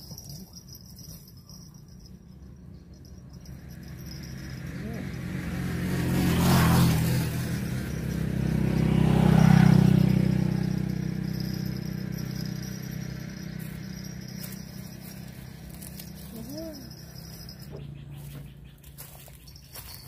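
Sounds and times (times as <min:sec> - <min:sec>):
vehicle engine passing by: 0:02.0 - 0:20.0.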